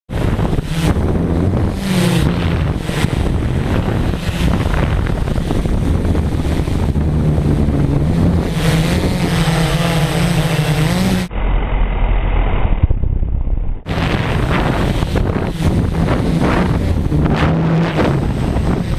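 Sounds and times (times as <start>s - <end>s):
wind buffeting microphone: 0.1s - 11.3s, 12.8s - 18.9s
drone propellers humming: 0.1s - 18.9s.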